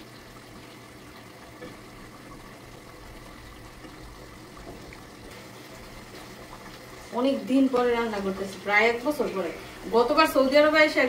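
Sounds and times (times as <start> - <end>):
food sizzling and simmering: 0.0 - 11.0.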